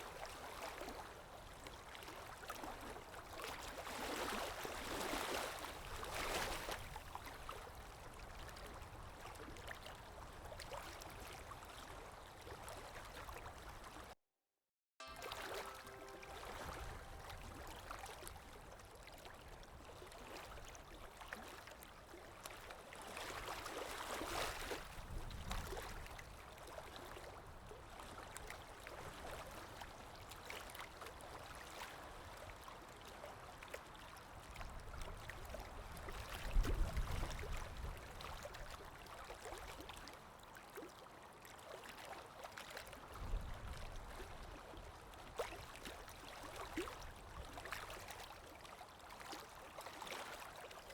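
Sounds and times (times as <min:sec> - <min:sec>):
river water rippling: 0:00.0 - 0:14.1, 0:15.0 - 0:50.9.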